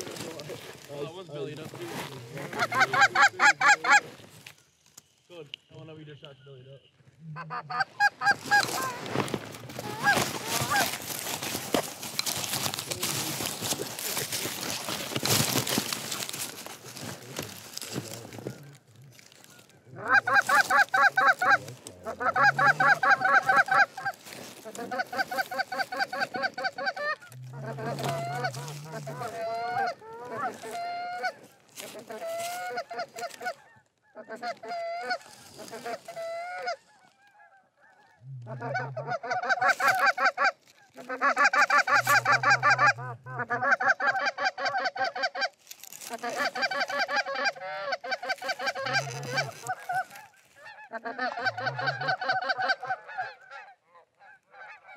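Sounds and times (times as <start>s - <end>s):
goose honking and clucking: 2.0s - 4.3s, 7.2s - 54.9s.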